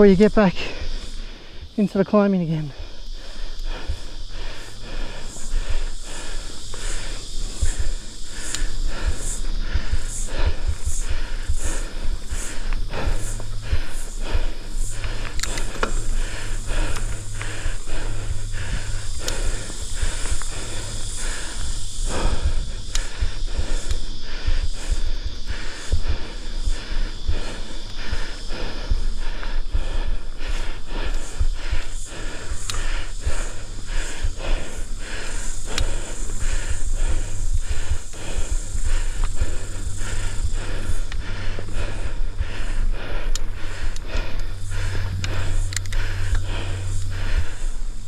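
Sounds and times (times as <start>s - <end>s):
person breathing hard: 0.0s - 48.0s
low microphone rumble: 2.8s - 48.0s.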